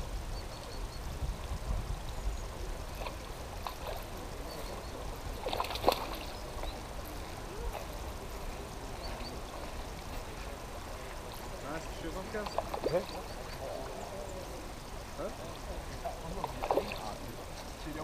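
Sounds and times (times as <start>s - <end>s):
fish splashing in water: 2.9s - 17.5s.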